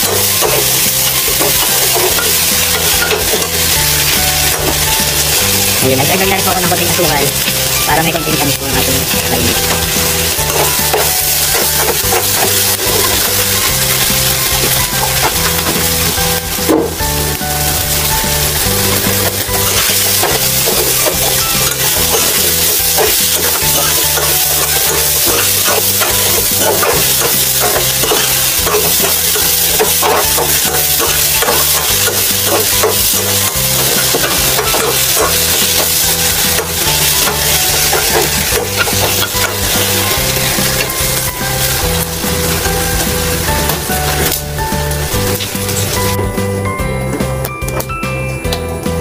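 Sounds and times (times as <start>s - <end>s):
metal spatula scraping a pan: 0.0s - 5.8s, 6.6s - 17.0s, 18.0s - 44.4s
background music with bass line: 0.0s - 49.0s
pork sizzling in a wok: 0.0s - 49.0s.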